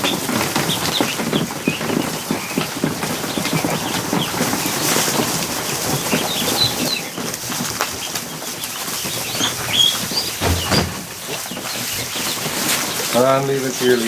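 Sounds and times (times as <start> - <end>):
high duckling peeps: 0.0 - 13.3
ducklings scrabbling feet and wings: 0.0 - 14.0.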